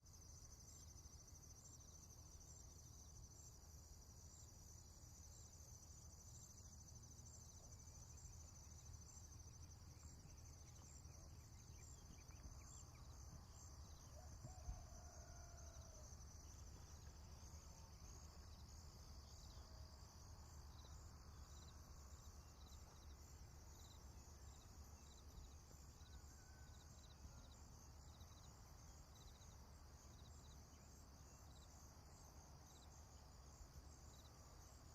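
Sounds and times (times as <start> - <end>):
insects chirring: 0.1 - 34.9.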